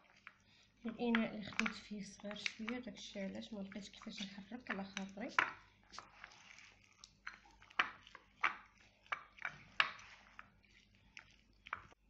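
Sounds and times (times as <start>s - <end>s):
soft stirring of thick filling: 0.0s - 12.0s.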